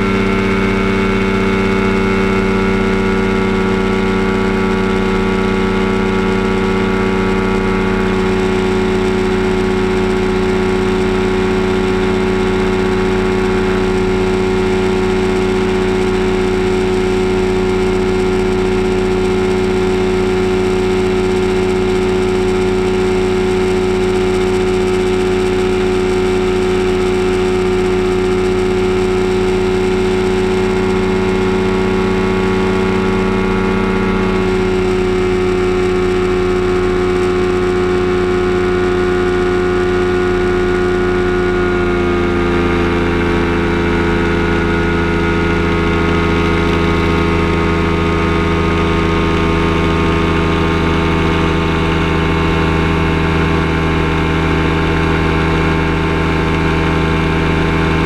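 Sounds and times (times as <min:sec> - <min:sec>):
ultralight engine and propeller: 0:00.0 - 0:58.0.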